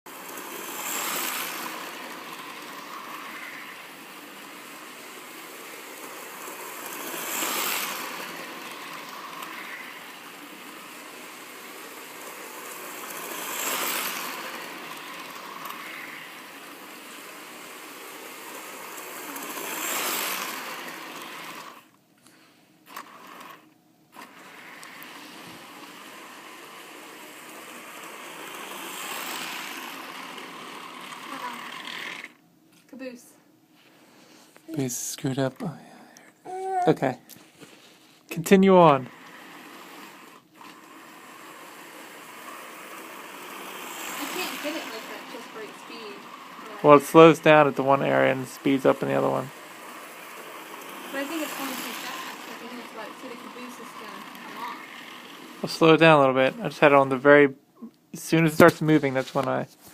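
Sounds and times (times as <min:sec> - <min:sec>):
model train whirring on rails: 0:00.0 - 0:33.2, 0:37.6 - 0:59.9.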